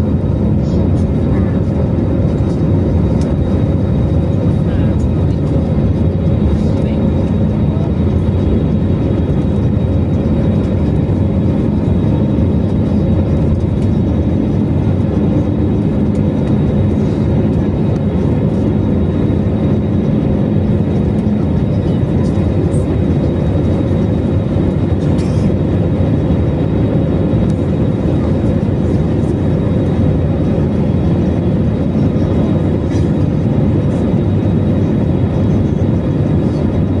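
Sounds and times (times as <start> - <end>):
airliner engines rumbling: 0.0 - 37.0.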